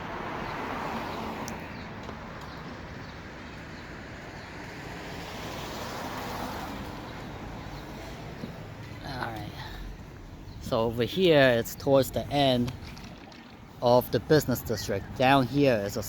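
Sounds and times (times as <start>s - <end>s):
cars passing on a street: 0.0s - 16.0s.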